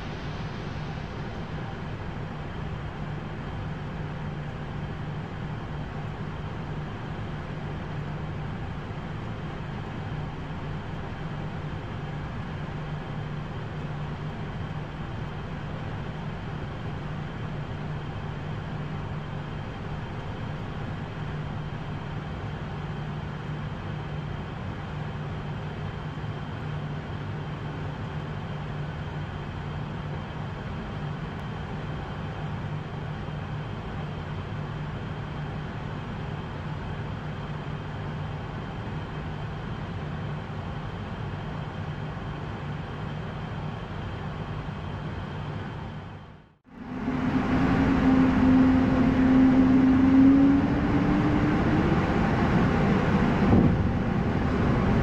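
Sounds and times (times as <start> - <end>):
aircraft cockpit engine and airflow drone: 0.0 - 55.0.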